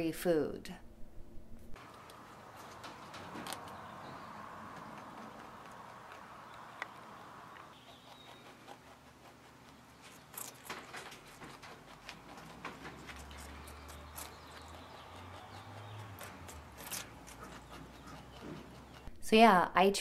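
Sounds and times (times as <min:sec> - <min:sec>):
low hum: 0:00.6 - 0:19.2
rabbit gnawing and crunching: 0:01.8 - 0:19.2.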